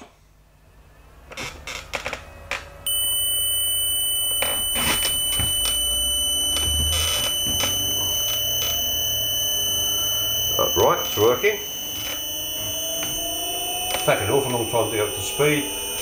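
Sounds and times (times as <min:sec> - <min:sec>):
electric motor high-pitched whine: 0:02.9 - 0:16.0.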